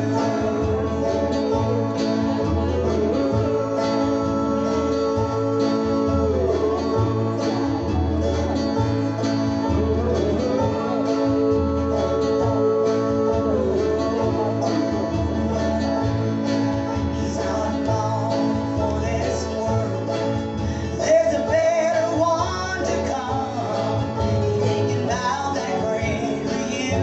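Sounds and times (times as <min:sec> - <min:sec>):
bass line: 0:00.0 - 0:27.0
guitar: 0:00.0 - 0:27.0
long held notes: 0:00.0 - 0:27.0.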